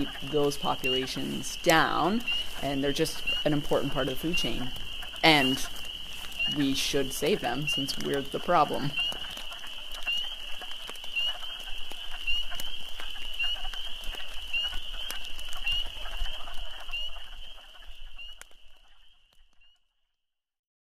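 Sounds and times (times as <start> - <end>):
chorus of frogs peeping: 0.0 - 19.9.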